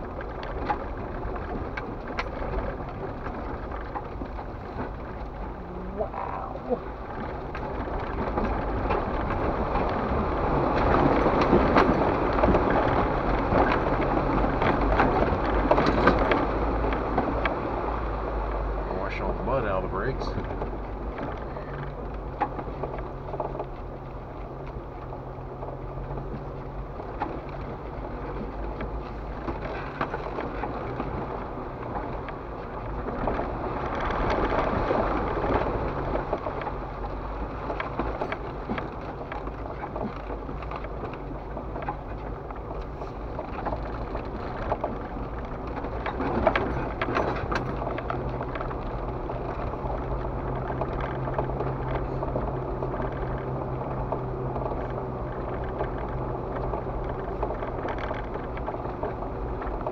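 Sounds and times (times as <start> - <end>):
car engine hum: 0.0 - 59.9
knocks and rattles from bumps: 0.0 - 59.9
tyres rumbling on gravel: 0.0 - 59.9.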